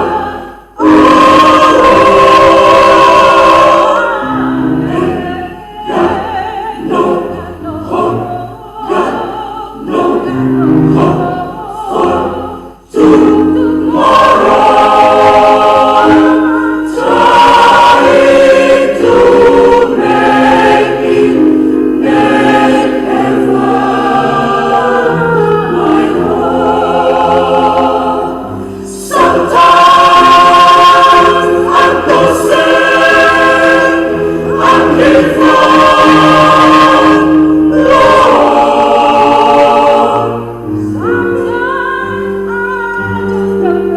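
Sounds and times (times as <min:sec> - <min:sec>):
church choir singing in parts: 0:00.0 - 0:43.9.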